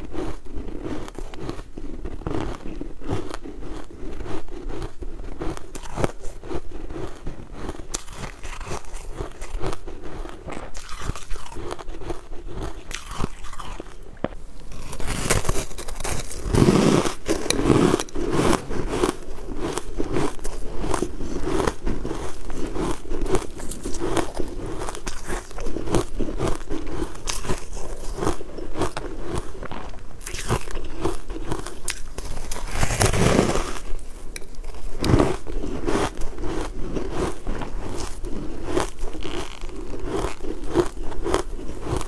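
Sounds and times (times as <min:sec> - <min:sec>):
crunching and chewing ice: 0:00.0 - 0:42.0.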